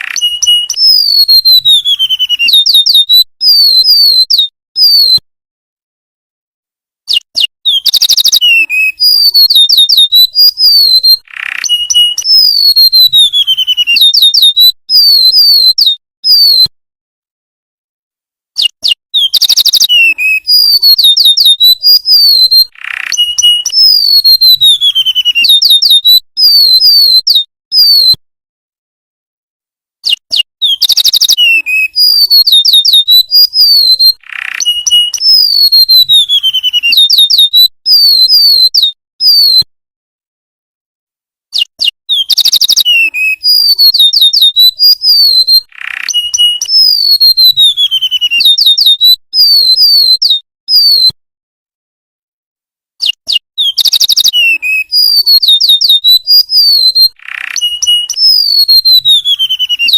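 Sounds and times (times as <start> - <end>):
bird singing high whistled notes: 0.0 - 5.2, 7.1 - 16.7, 18.6 - 28.2, 30.0 - 39.7, 42.1 - 51.2, 53.0 - 59.9.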